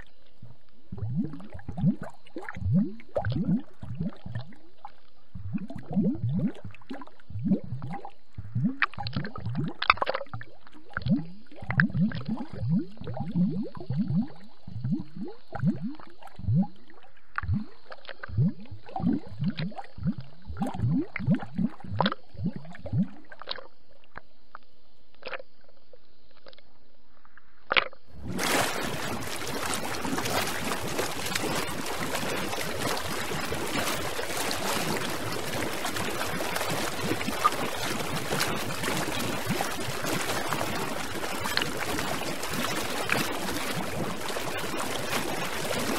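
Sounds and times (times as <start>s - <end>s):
water gurgling underwater: 0.0s - 24.3s, 27.7s - 45.9s.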